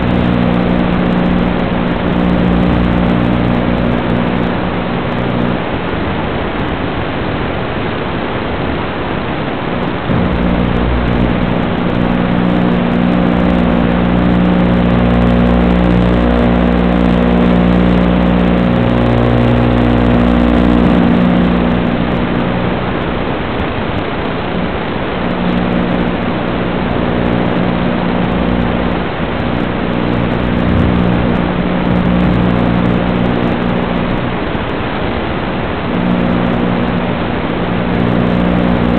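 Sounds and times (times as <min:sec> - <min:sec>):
low buzzing hum: 0:00.0 - 0:38.9
static hiss: 0:00.0 - 0:38.9.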